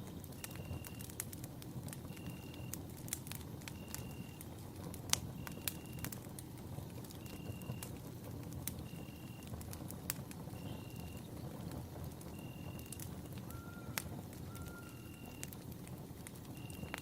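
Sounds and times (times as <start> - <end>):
campfire burning: 0.0 - 17.0
wood crackles and pops: 0.0 - 17.0.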